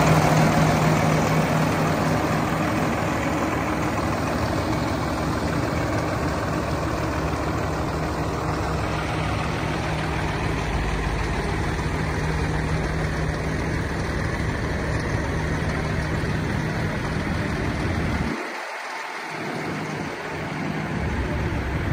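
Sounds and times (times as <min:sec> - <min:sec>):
garbage truck diesel engine idling: 0:00.0 - 0:21.9.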